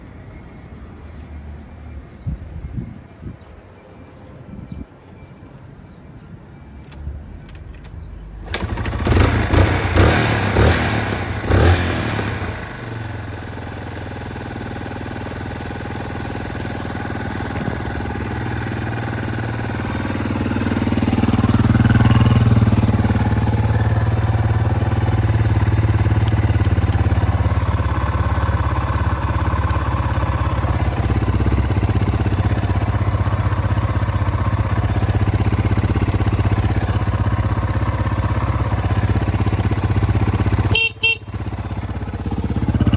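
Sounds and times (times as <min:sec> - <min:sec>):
motorcycle engine idling: 0:08.0 - 0:42.9.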